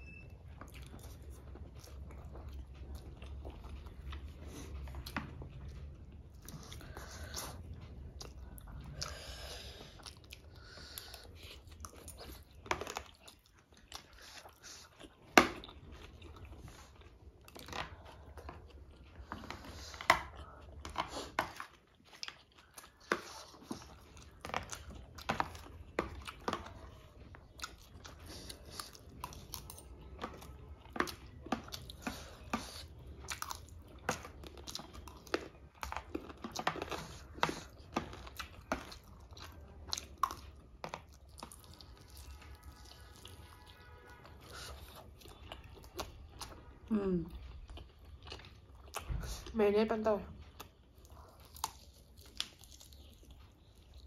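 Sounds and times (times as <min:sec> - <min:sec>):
chewing and biting: 0:00.3 - 0:49.6, 0:50.3 - 0:54.0.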